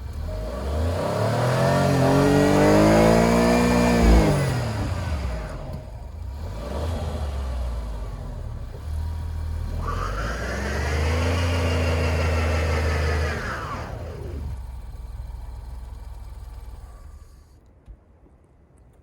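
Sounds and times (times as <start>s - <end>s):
car engine revving: 0.0s - 17.4s.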